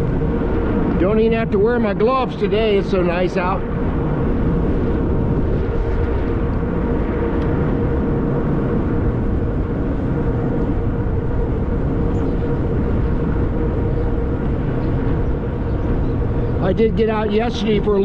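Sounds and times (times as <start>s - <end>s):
steady hum: 0.0s - 18.0s
wind and tyre rush: 0.0s - 18.0s.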